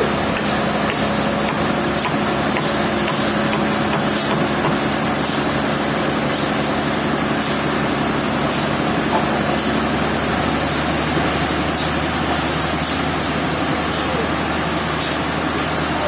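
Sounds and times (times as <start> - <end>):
saw and machine noise: 0.0 - 16.0.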